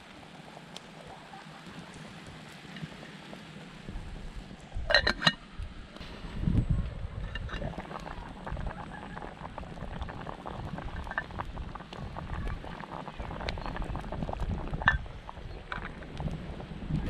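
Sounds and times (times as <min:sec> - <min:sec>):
soup bubbling at a boil: 0:00.0 - 0:17.0
wood fire crackling: 0:00.0 - 0:17.0.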